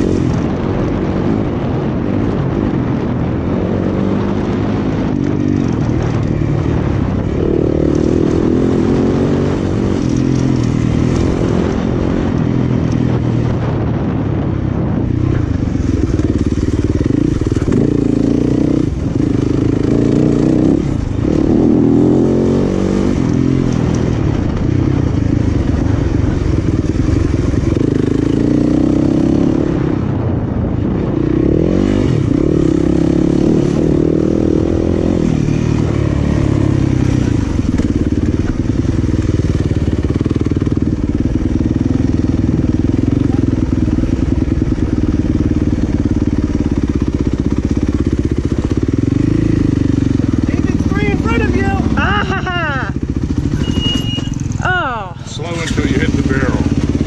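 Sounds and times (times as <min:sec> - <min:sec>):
dirt bike engine revving: 0:02.2 - 0:14.1, 0:15.3 - 0:30.1, 0:31.4 - 0:57.0.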